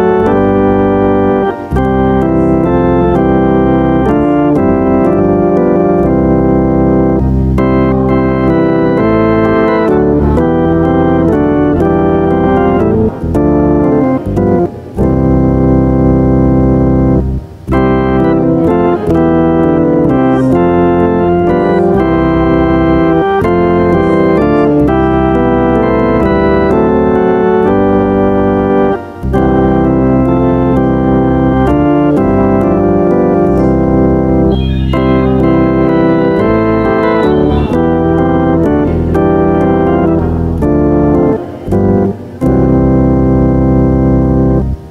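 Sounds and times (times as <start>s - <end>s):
church organ playing a hymn: 0.0s - 44.9s.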